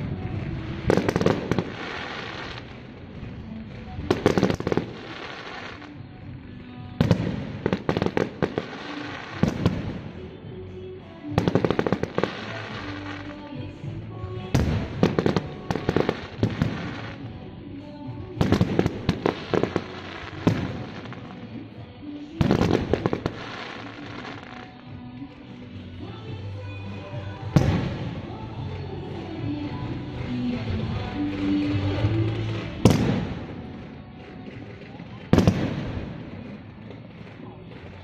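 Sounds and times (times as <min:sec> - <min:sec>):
fireworks cracking and banging: 0:00.0 - 0:38.0
music playing: 0:00.0 - 0:38.0.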